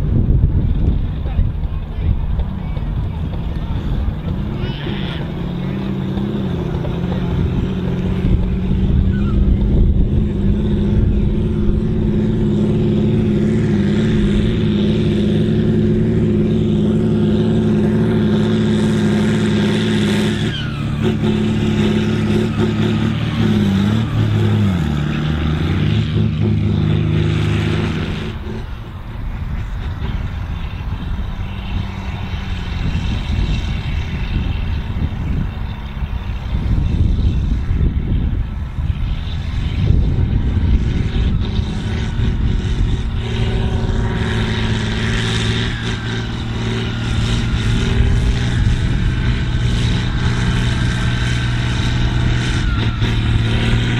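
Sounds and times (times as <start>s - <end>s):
rough noisy engine sound: 0.0s - 53.9s
tractor diesel engine under load: 0.0s - 53.9s.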